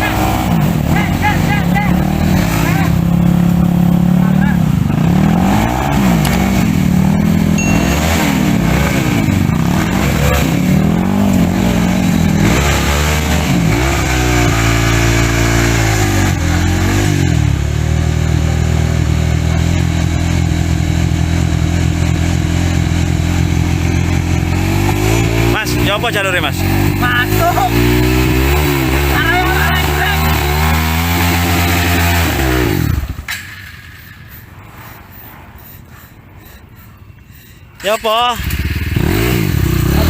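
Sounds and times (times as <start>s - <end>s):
dirt bike engine revving: 0.0s - 34.2s, 35.1s - 40.0s.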